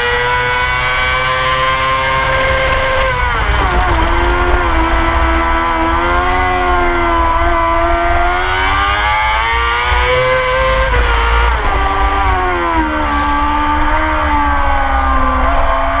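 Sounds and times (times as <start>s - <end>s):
race motorcycle engine: 0.0s - 16.0s.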